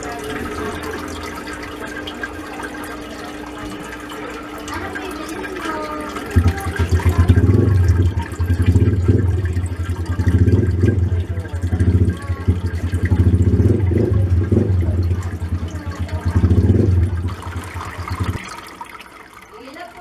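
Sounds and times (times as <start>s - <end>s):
water pouring into aquarium: 0.0s - 20.0s.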